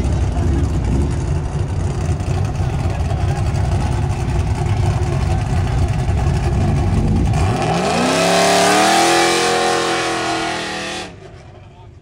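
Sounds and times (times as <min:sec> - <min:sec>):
car accelerating hard: 0:00.0 - 0:11.5
car engines rumbling: 0:00.0 - 0:12.0.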